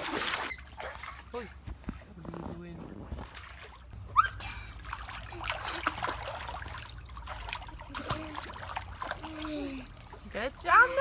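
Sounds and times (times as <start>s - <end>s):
pool water splashing: 0.0s - 1.4s, 3.2s - 11.0s.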